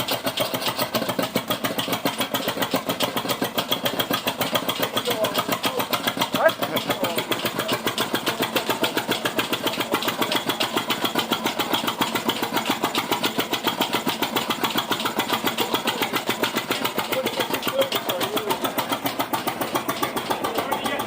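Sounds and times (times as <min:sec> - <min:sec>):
diesel locomotive engine idling: 0:00.0 - 0:21.0.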